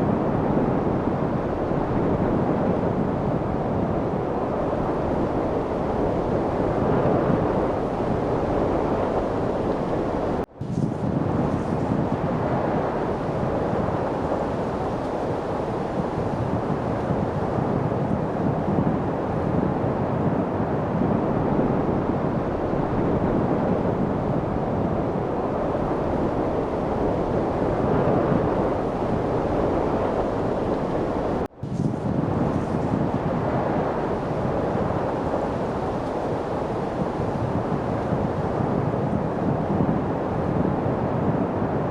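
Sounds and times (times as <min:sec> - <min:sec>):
steady wind noise: 0:00.0 - 0:41.9.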